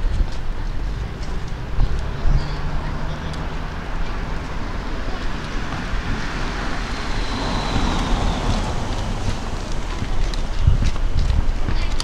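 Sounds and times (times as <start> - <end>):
minivan driving past: 1.2 - 11.2.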